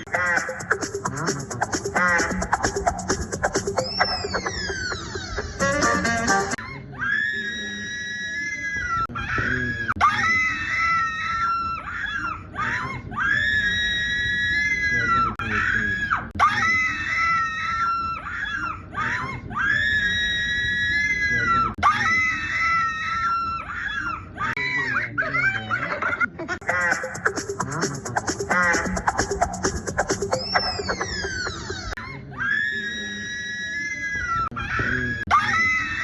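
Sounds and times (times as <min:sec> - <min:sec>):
high-pitched screaming: 0:03.6 - 0:24.8, 0:26.6 - 0:36.0.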